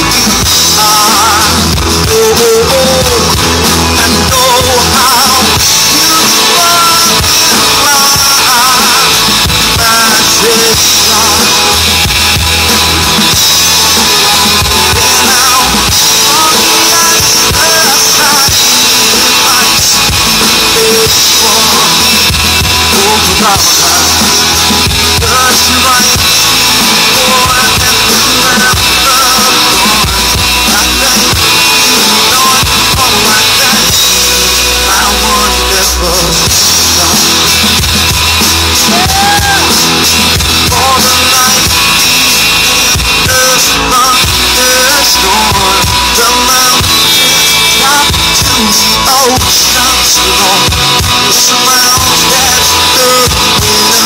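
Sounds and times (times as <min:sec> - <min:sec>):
drum kit beat: 0:00.0 - 0:54.0
electric and acoustic guitars: 0:00.0 - 0:54.0
sliding melodic line: 0:00.0 - 0:54.0.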